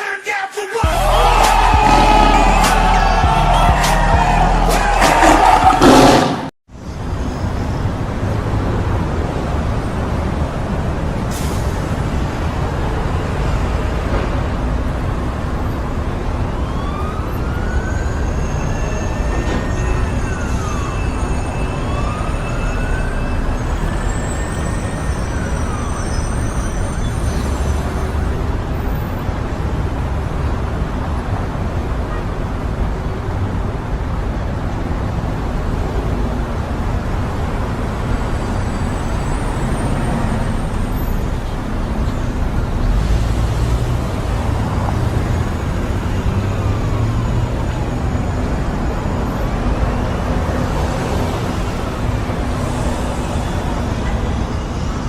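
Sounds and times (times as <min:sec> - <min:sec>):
heavy traffic rumble: 0:00.8 - 0:55.0.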